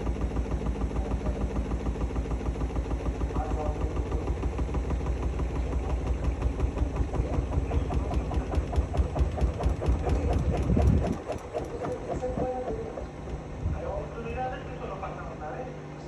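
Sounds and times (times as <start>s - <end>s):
washing machine drum rumbling: 0.0s - 13.7s.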